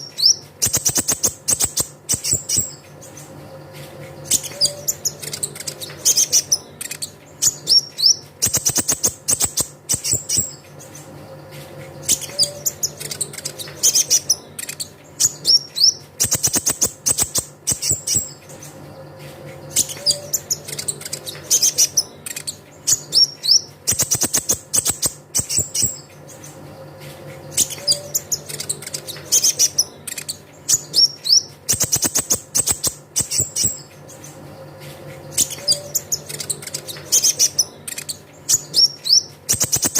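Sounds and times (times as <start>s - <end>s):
bird song with chirps and trills: 0.0s - 39.9s.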